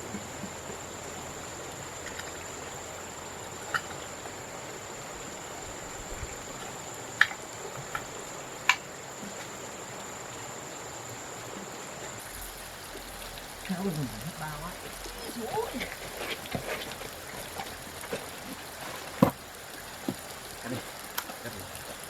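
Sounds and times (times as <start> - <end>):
high-pitched insect whine: 0.0 - 22.0
outdoor hiss: 0.0 - 22.0.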